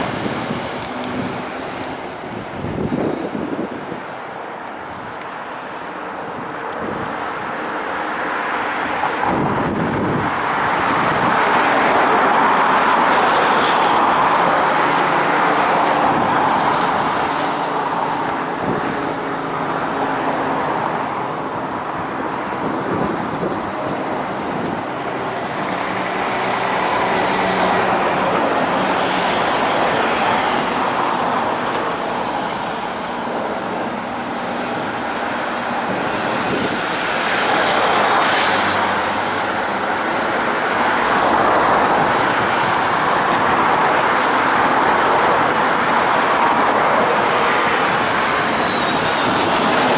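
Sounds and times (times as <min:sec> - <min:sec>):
road traffic passing: 0:00.0 - 0:49.9.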